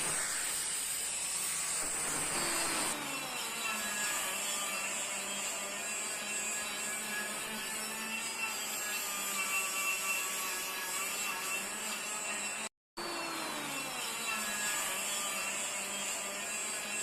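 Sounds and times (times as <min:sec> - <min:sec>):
power tool running: 0:00.0 - 0:17.0.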